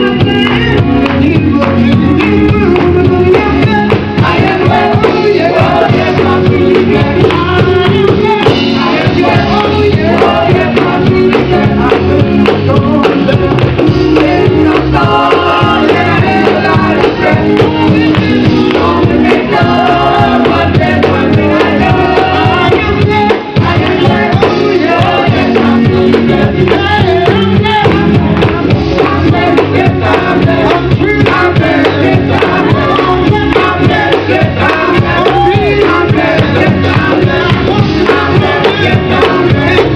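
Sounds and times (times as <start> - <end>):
band accompaniment: 0.0 - 39.9
gospel group singing: 0.0 - 39.9.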